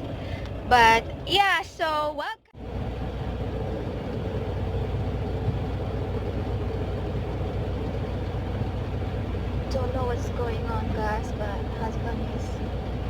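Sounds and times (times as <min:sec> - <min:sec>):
diesel truck engine rumbling: 0:00.0 - 0:13.0
faint steady hum: 0:00.0 - 0:13.0.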